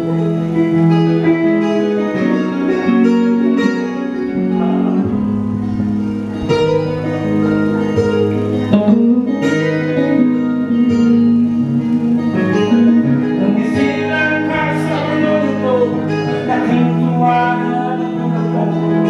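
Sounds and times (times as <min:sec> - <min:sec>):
guitar playing: 0:00.0 - 0:19.0.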